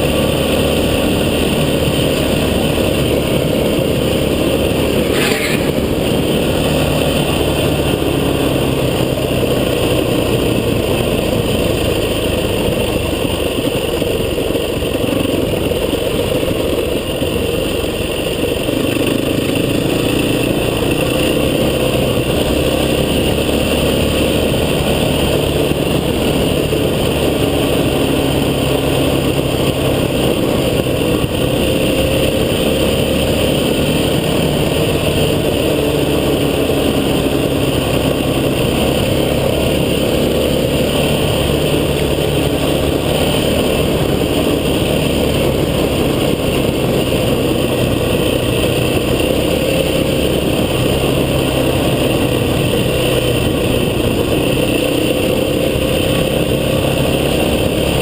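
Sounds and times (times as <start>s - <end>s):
driving noise rumble: 0.0s - 58.0s
vehicle engine running: 0.0s - 58.0s.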